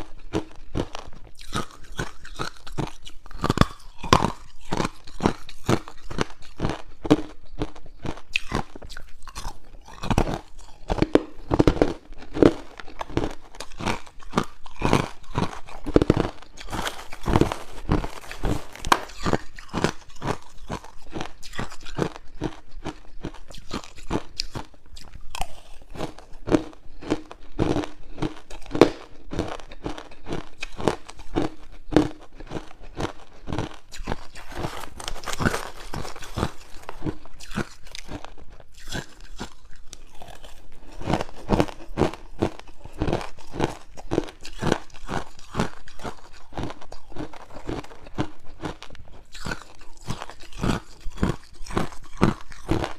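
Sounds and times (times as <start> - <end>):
ice cubes crunching being chewed: 0.0 - 52.9.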